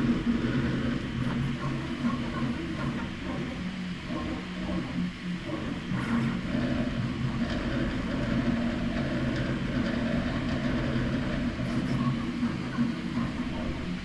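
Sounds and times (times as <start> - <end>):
stepper motors humming: 0.0 - 14.0.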